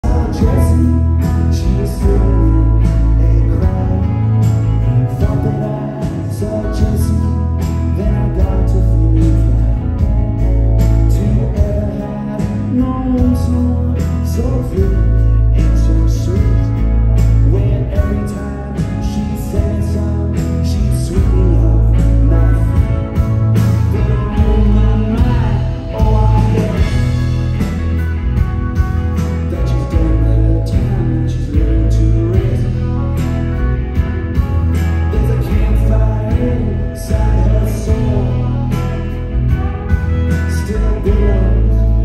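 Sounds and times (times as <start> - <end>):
heavy bass: 0.0 - 42.0
live rock band playing: 0.0 - 42.0
steady drum beat: 0.0 - 42.0.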